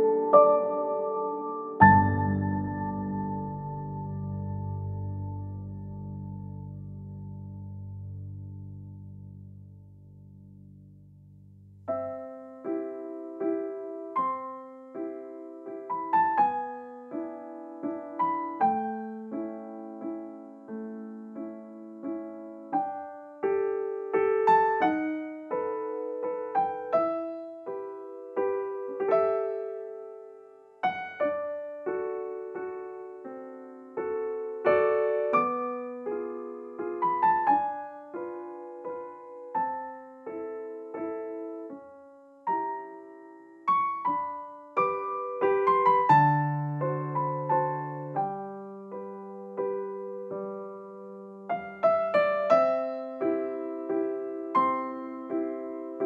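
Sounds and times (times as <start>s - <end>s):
calm solo piano music: 0.0s - 56.0s.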